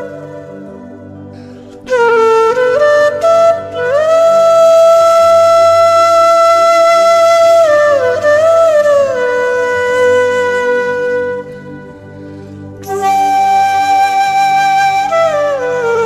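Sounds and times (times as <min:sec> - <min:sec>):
slow wind instrument melody: 0:00.0 - 0:16.0.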